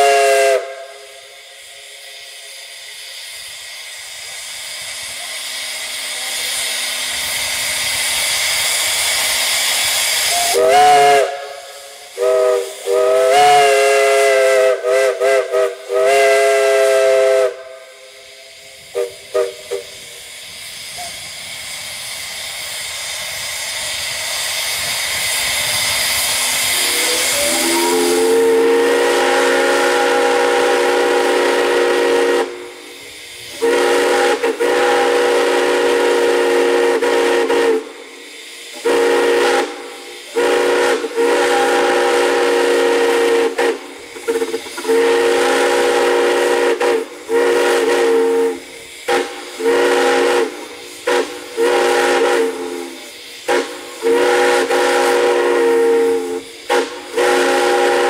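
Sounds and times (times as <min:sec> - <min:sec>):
steam whistle blasts: 0:00.0 - 0:22.6, 0:23.6 - 0:58.0
steam hissing: 0:00.0 - 0:58.0.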